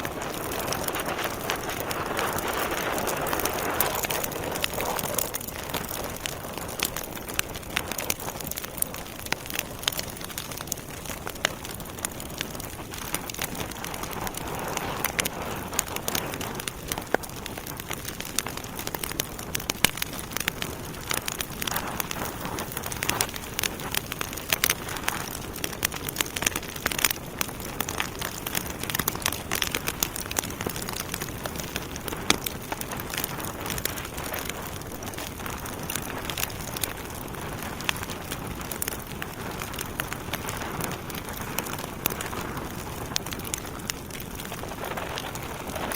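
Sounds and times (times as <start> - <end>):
burning logs crackling and popping: 0.0 - 45.9
fire hissing: 0.0 - 45.9.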